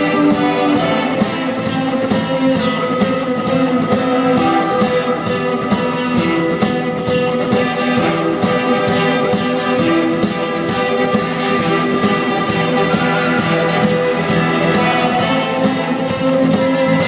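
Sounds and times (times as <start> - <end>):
electric guitar: 0.0 - 17.0
held orchestral notes: 0.0 - 17.0
steady drum beat: 0.0 - 17.0.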